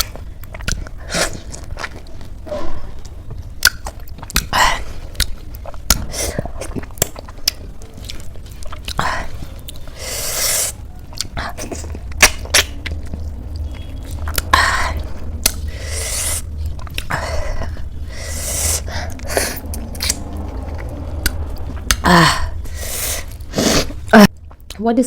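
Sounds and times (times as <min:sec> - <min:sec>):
wet chewing with mouth clicks: 0:00.0 - 0:22.0.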